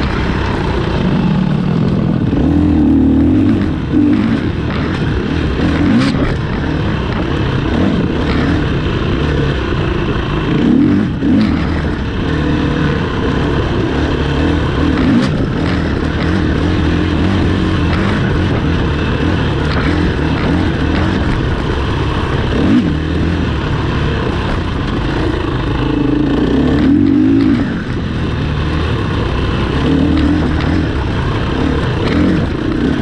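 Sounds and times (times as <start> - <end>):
racing engines running: 0.0 - 33.0.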